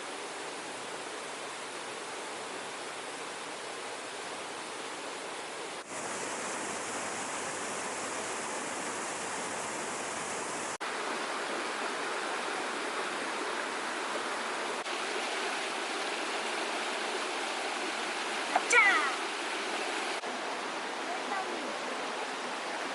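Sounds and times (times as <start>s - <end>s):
creek water rushing over falls: 0.0s - 22.9s.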